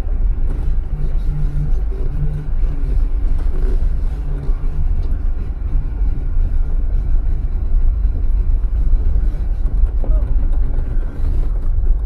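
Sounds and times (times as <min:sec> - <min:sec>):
car engine rumbling at low revs: 0:00.0 - 0:12.0.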